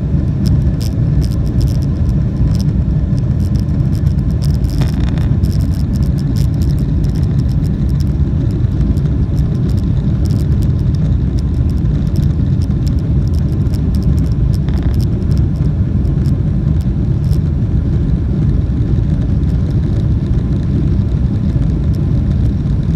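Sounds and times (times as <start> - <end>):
jet engine cabin rumble: 0.0 - 22.9.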